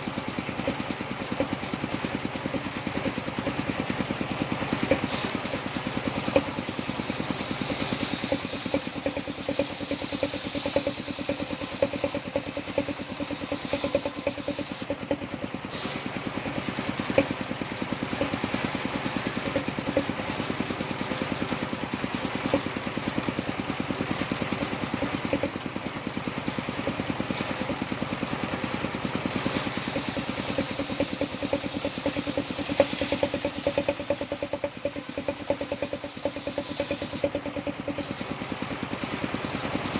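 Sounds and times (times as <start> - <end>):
engine knocks: 0.0 - 39.9
engine running steadily: 0.0 - 39.9.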